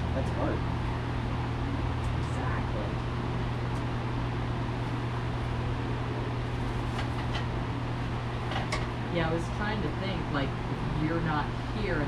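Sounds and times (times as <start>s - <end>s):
forge humming and rushing air: 0.0s - 12.0s.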